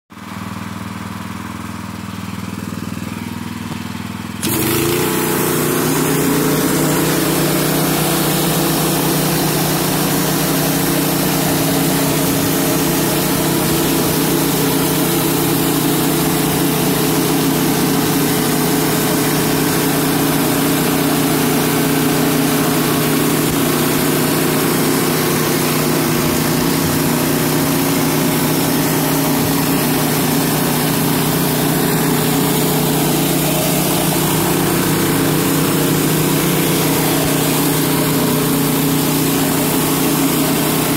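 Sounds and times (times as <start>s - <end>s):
pressure washer engine running: 0.2s - 40.9s
spray jets hissing on concrete: 4.4s - 40.9s.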